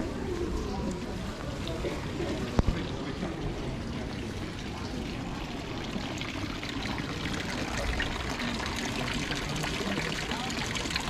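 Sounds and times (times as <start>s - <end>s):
water running and trickling: 0.7s - 11.0s.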